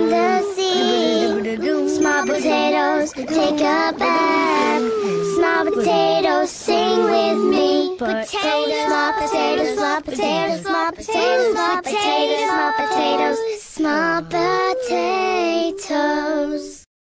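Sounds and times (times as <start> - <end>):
music with high-pitched singing: 0.0 - 16.8.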